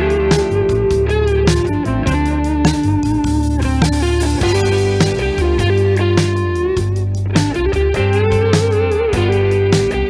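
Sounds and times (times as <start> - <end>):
instrumental music with bass and beat: 0.0 - 10.0.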